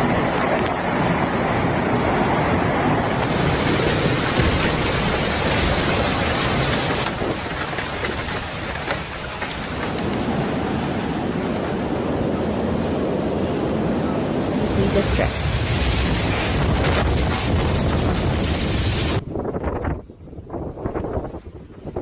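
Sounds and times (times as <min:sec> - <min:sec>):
wind and rain buffeting microphone: 0:00.0 - 0:22.0.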